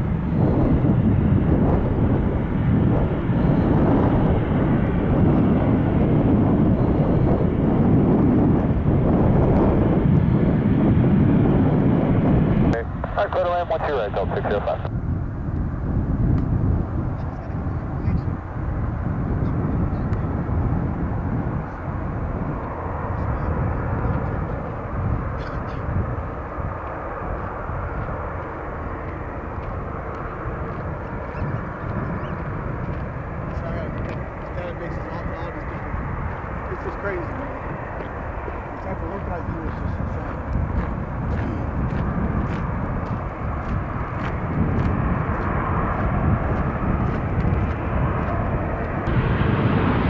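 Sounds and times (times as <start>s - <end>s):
distant jet engines rumbling: 0.0s - 50.0s.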